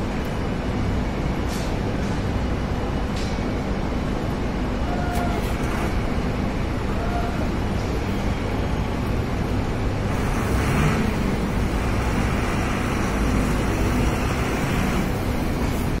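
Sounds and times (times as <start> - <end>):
machinery rumble and hum: 0.0 - 16.0.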